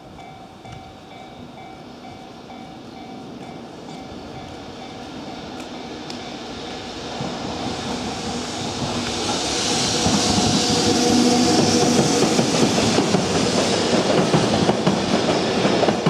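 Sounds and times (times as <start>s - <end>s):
electric train approaching: 0.0s - 16.0s.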